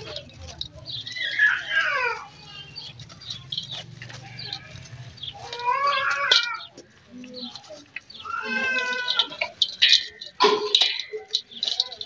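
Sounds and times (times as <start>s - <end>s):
charcoal crumbling by hand: 0.0s - 12.0s
drawn-out animal cries: 0.0s - 12.0s.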